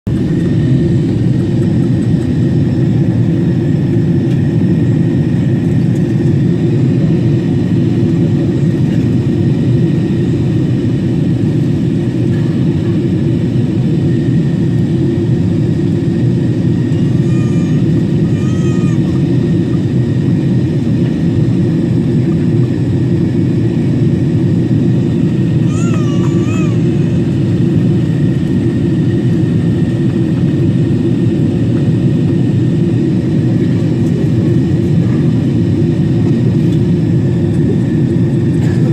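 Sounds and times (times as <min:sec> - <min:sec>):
airplane cabin engine rumble: 0:00.1 - 0:38.9.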